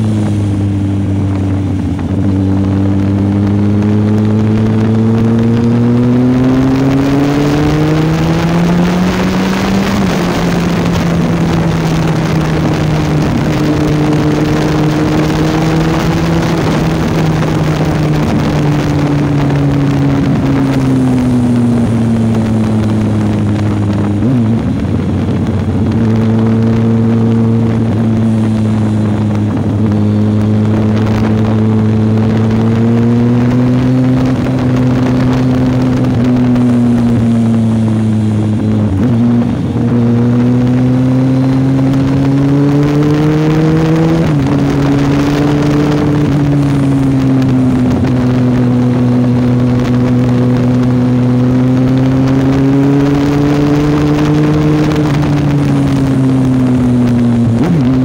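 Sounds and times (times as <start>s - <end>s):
motorcycle engine running: 0.0s - 58.0s
rushing wind: 0.0s - 58.0s.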